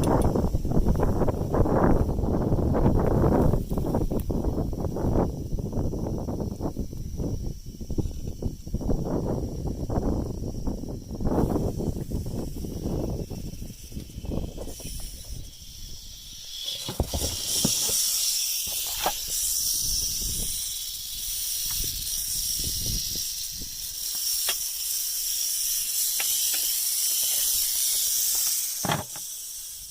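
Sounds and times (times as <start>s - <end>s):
rattlesnake rattling: 0.0s - 29.9s.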